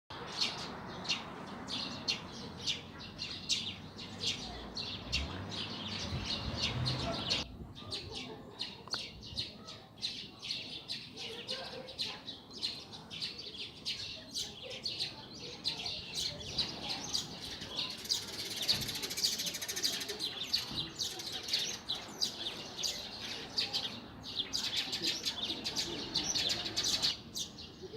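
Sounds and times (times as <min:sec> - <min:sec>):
songbirds chirping: 0:00.1 - 0:27.9.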